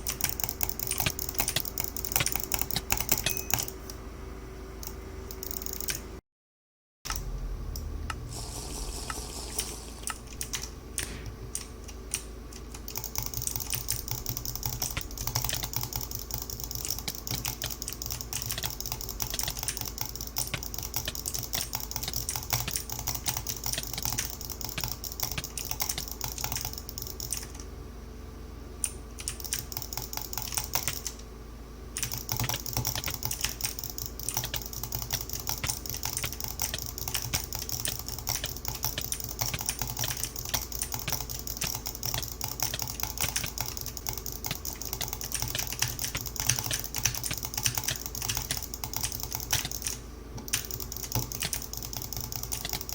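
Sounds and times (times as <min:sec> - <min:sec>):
keyboard typing: 0:00.0 - 0:03.8, 0:08.8 - 0:27.7, 0:28.8 - 0:31.2, 0:32.0 - 0:52.9.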